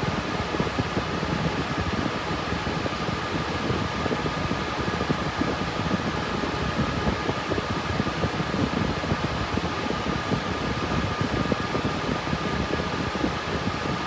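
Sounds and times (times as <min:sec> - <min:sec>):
cooling fans running: 0:00.0 - 0:14.0.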